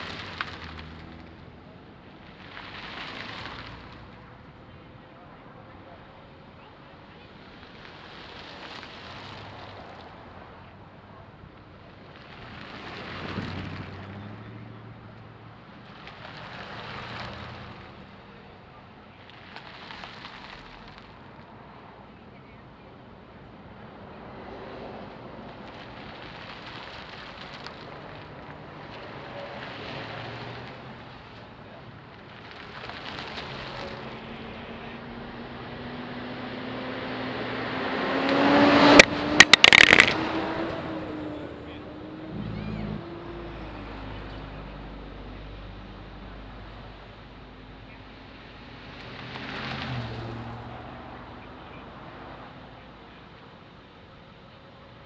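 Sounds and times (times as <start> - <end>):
pickup truck passing: 0.0 - 21.9, 23.4 - 54.9
vehicles driving past: 0.0 - 55.0.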